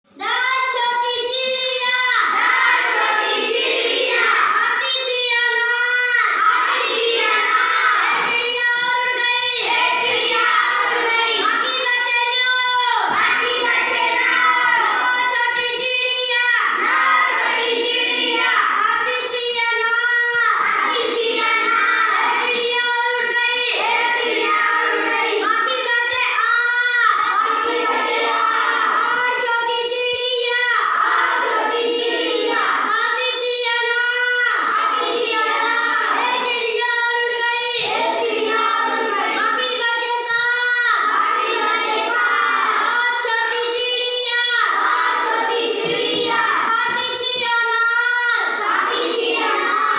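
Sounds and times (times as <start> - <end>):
child singing: 0.2 - 49.9.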